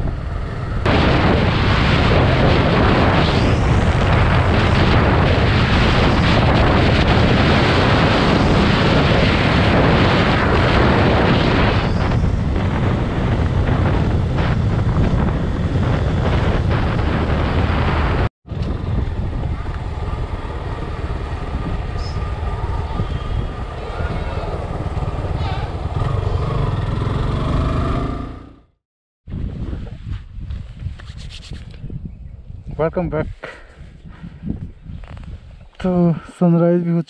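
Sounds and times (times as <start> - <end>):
wind buffeting microphone: 0.0 - 28.2, 29.3 - 36.3.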